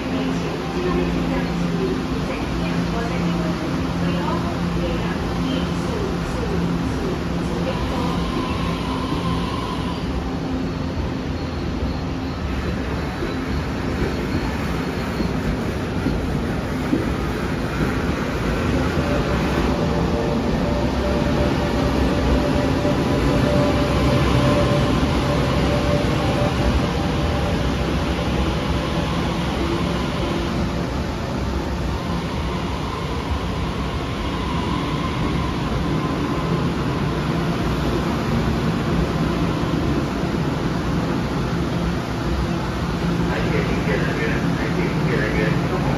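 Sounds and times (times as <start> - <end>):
electric train running noise: 0.0 - 45.9.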